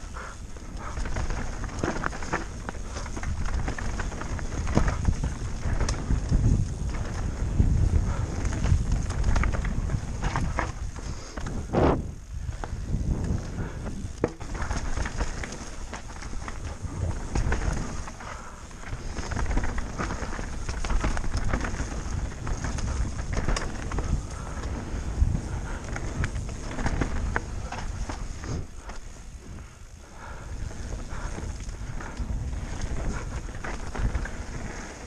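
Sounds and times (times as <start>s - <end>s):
bike knocks and rattles: 0.0s - 35.0s
tyres on dirt: 0.0s - 35.0s
wind buffeting microphone: 0.0s - 35.0s.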